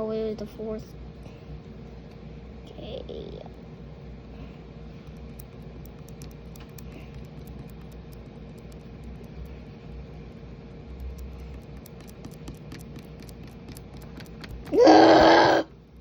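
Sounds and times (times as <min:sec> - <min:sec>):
small electric fan whirring: 0:00.0 - 0:16.0.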